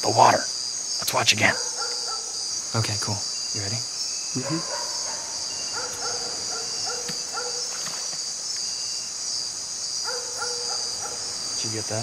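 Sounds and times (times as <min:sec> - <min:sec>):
faint low insect calls: 0:00.0 - 0:12.0
high-pitched insect chorus: 0:00.0 - 0:12.0.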